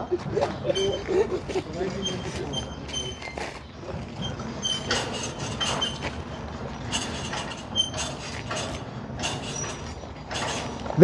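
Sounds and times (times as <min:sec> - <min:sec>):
crane engine rumble: 0:00.0 - 0:11.0
metallic clanks: 0:00.0 - 0:11.0
short high squeaks: 0:00.5 - 0:11.0.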